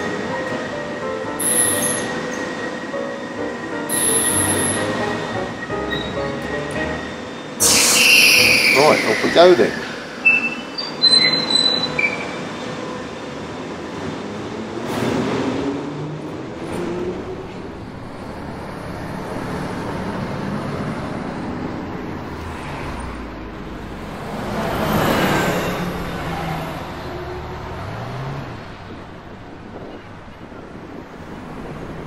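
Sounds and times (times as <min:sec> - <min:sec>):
hum of city traffic: 0:00.0 - 0:32.0.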